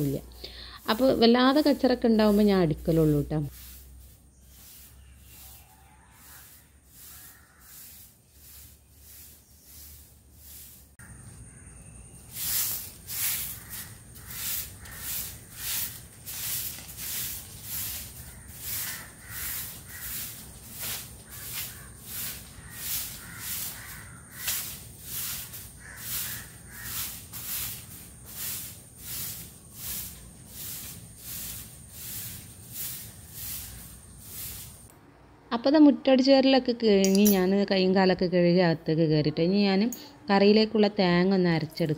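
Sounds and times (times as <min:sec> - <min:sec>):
broom sweeping: 0:00.0 - 0:11.1, 0:11.9 - 0:34.9.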